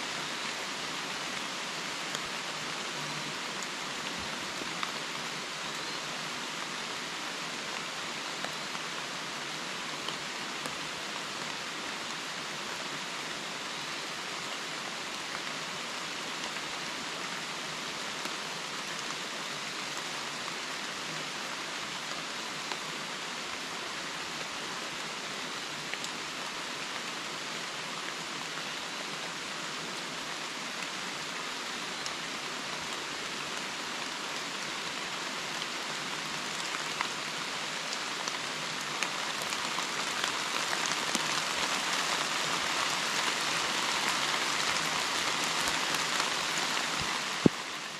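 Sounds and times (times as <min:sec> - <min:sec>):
rain falling on leaves and wood: 0:00.0 - 0:47.9.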